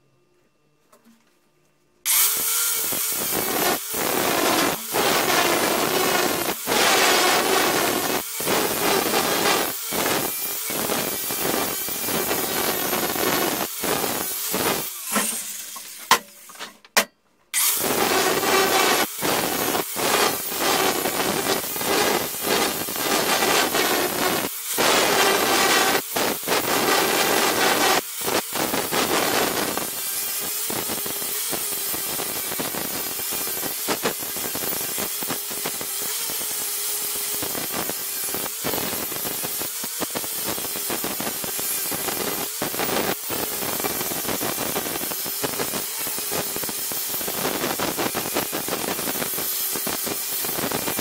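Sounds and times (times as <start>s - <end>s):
angle grinder grinding steel: 2.1s - 16.8s, 17.6s - 51.0s.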